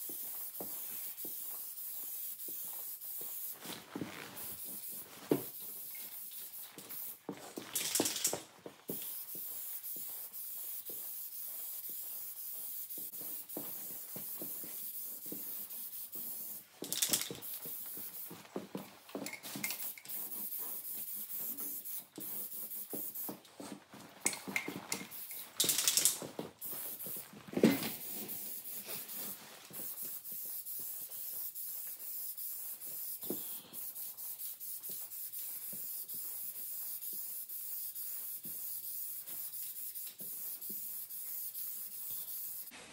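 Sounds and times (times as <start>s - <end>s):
spray paint can hissing: 0.0s - 18.5s, 19.2s - 23.5s, 24.2s - 42.7s.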